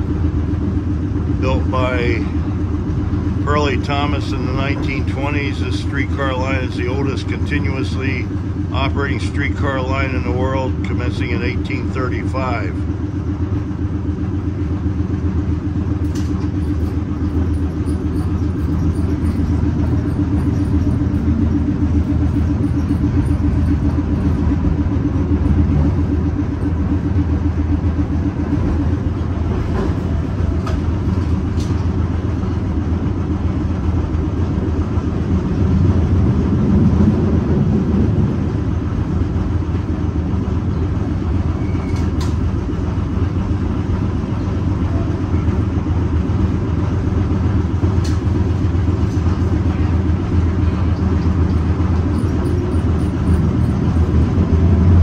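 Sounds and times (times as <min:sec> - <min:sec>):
streetcar rumbling on track: 0:00.0 - 0:55.0.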